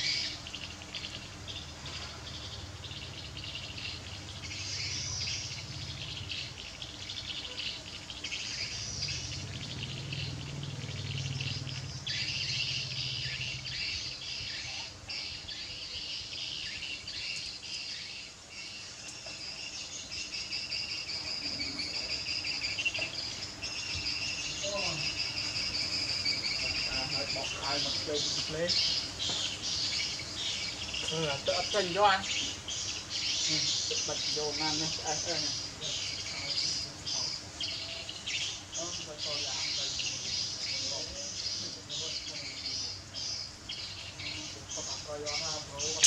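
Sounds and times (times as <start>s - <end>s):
bird chirps: 0.0s - 46.0s
insects chirring: 0.0s - 46.0s.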